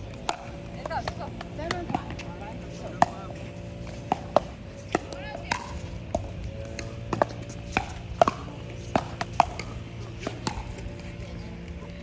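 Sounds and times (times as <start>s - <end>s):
paddles hitting plastic ball: 0.0s - 12.0s.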